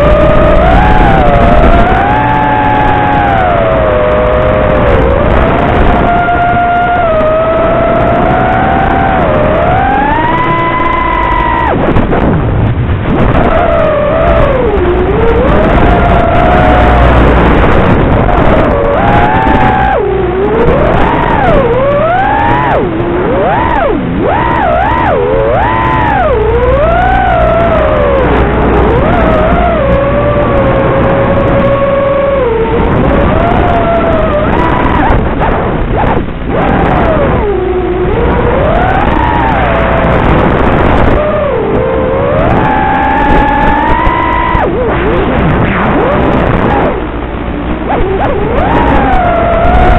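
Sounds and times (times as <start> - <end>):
drone motors whining: 0.0 - 49.9
wind and propeller hiss: 0.0 - 49.9.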